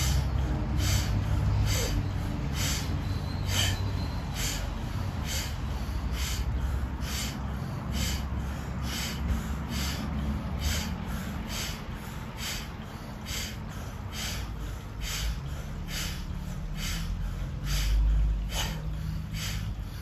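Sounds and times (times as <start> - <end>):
forceful breaths through nose: 0.0 - 20.0
steady low hum: 0.0 - 20.0.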